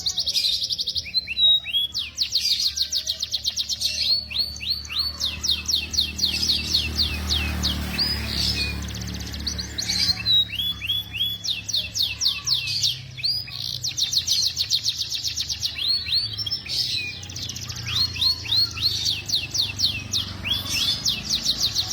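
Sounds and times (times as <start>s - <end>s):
canary singing: 0.0s - 21.9s.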